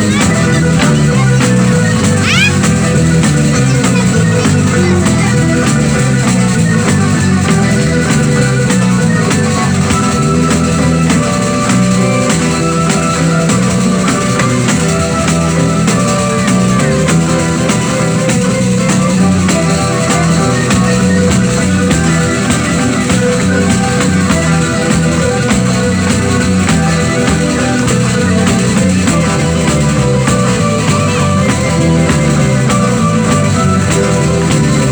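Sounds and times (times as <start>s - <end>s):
percussion strokes: 0.0s - 34.9s
plucked strings: 0.0s - 34.9s
sustained melodic lines: 0.0s - 34.9s.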